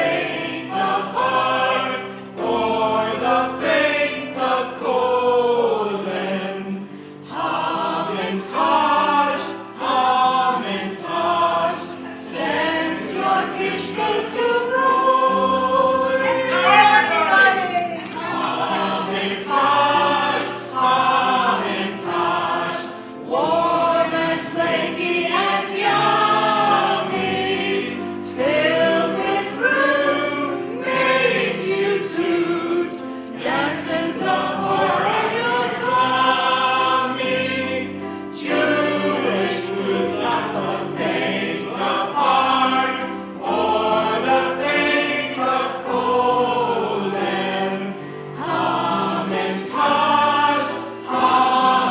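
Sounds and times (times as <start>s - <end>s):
group of voices singing: 0.0s - 51.9s.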